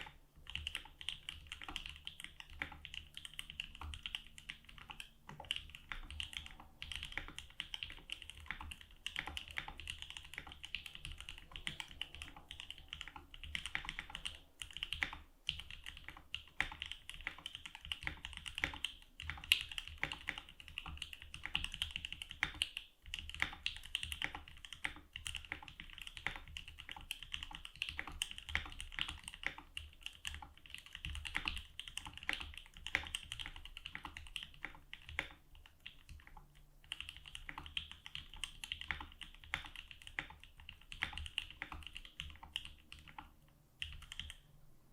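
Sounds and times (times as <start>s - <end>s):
mechanical keyboard typing: 0.0s - 44.5s.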